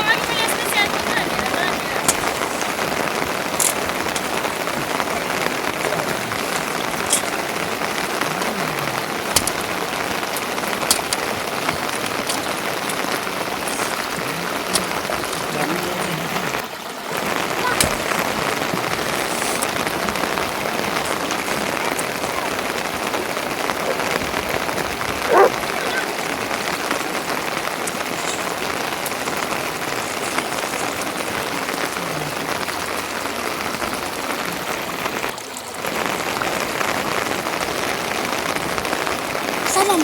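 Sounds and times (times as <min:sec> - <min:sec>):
steady rain hissing: 0:00.0 - 0:40.0.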